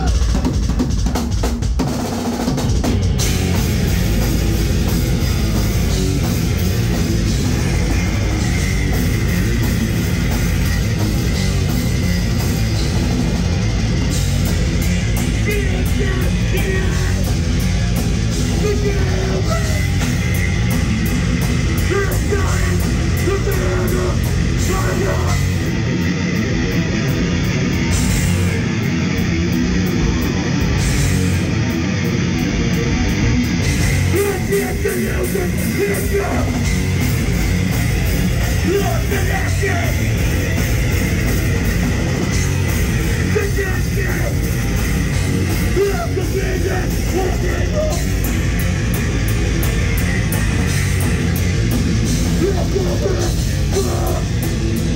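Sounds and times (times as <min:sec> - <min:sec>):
harsh vocals: 0:00.0 - 0:00.8, 0:03.4 - 0:26.0, 0:33.8 - 0:54.9
pounding drums: 0:00.0 - 0:25.8, 0:33.7 - 0:54.9
distorted electric guitars: 0:00.0 - 0:54.9.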